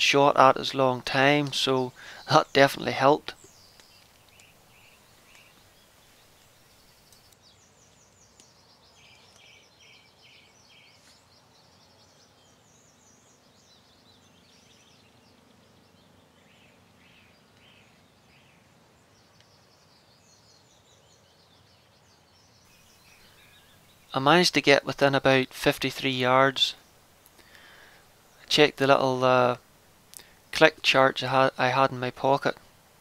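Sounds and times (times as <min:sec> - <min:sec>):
small birds chirping and trilling: 0:00.0 - 0:33.0.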